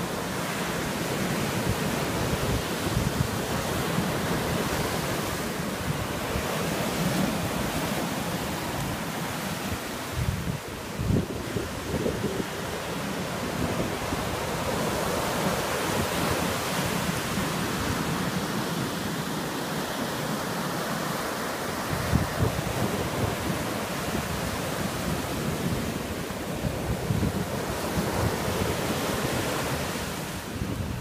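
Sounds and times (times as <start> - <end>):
wind gusting on microphone: 0.0 - 19.3, 21.4 - 31.0
ocean surf breaking on sand: 0.0 - 31.0.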